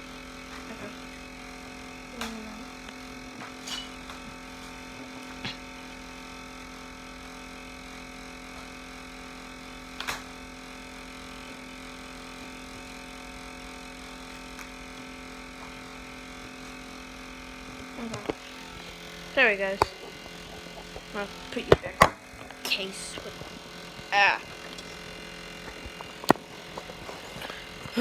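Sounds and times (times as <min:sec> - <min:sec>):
electrical room hum: 0:00.0 - 0:28.0.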